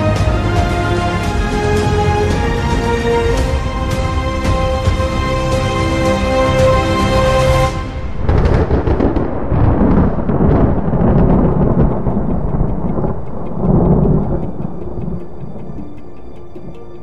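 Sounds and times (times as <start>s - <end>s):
rolling thunder: 0.0s - 16.0s
music: 0.0s - 17.0s.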